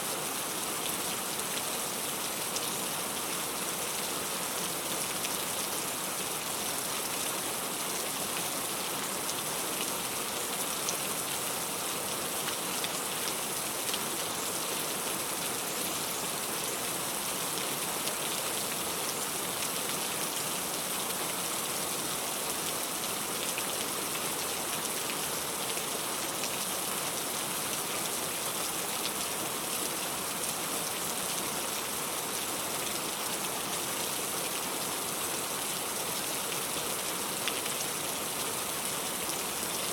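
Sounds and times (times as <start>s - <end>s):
hiss of rain: 0.0s - 39.9s.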